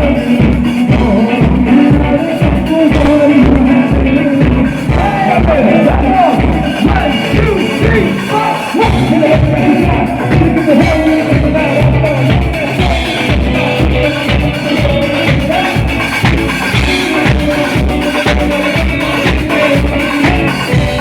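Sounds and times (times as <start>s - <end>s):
live band playing loud music: 0.0s - 21.0s
steady drum beat: 0.0s - 21.0s.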